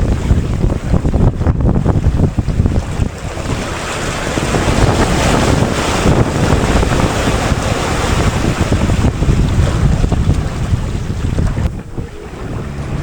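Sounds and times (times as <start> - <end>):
waves and rushing water: 0.0 - 13.0
wind buffeting microphone: 0.0 - 13.0.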